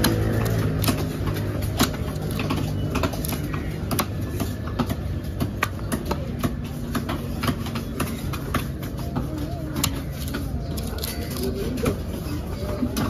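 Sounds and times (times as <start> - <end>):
cleaver chopping on wooden block: 0.0 - 11.3
steady background noise: 0.0 - 13.0.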